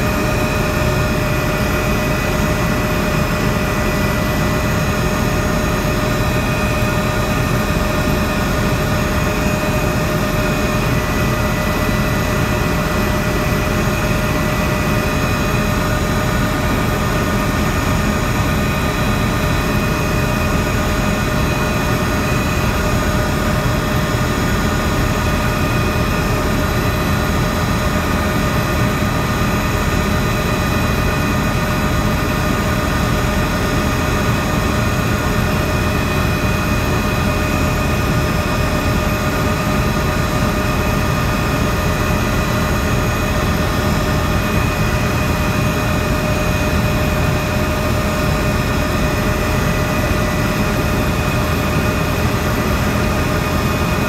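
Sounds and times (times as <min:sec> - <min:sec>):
helicopter engine and rotor noise: 0:00.0 - 0:54.0
steady high whine: 0:00.0 - 0:54.0.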